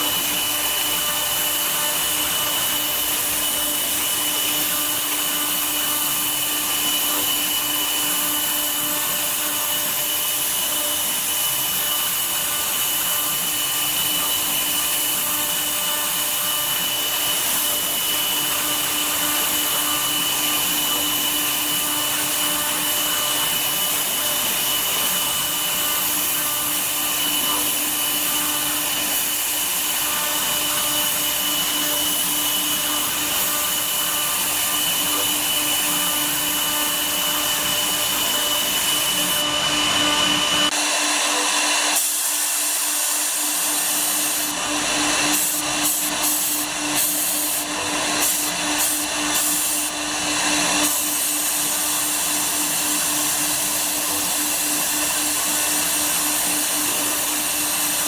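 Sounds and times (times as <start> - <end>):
router spindle cutting wood: 0.0 - 58.0.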